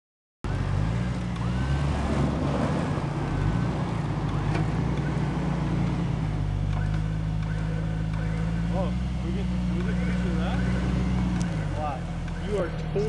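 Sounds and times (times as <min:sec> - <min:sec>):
vehicle engine under load: 0:00.4 - 0:13.0.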